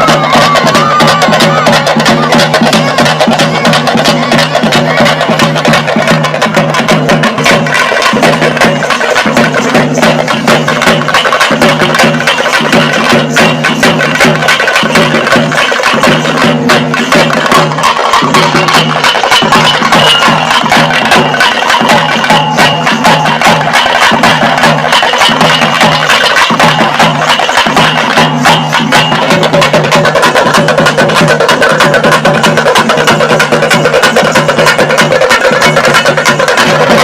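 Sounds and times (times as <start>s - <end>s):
fast drum strokes: 0.0s - 37.0s.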